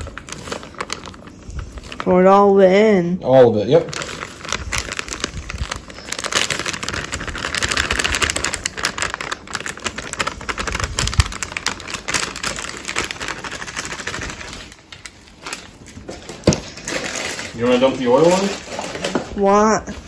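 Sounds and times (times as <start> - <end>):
plastic bag crinkling: 0.0 - 2.6, 3.2 - 20.0.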